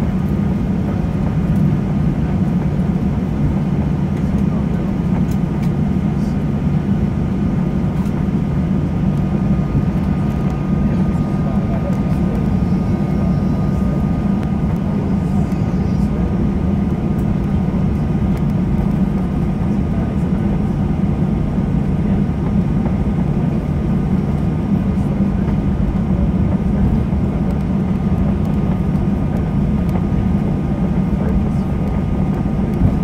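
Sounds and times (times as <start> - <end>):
jet engines heard inside cabin: 0.0 - 33.0
thin steady engine whine: 0.0 - 33.0.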